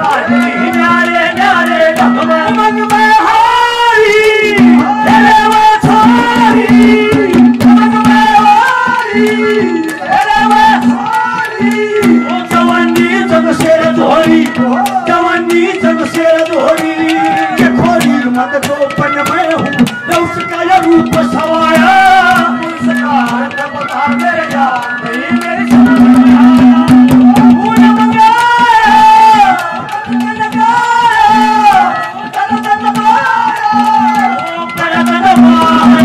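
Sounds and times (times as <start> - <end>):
bending folk melody: 0.0 - 36.0.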